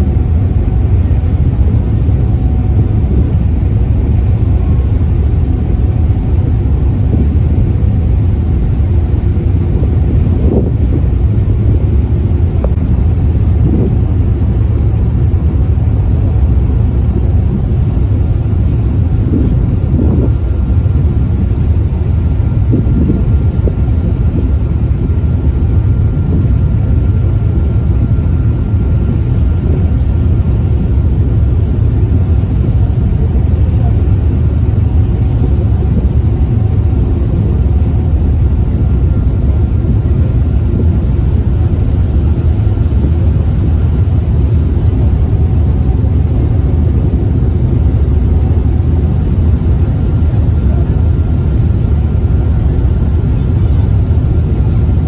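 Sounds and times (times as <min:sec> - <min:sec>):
faint steady whine: 0:00.0 - 0:55.0
ferry engine rumble: 0:00.0 - 0:55.0.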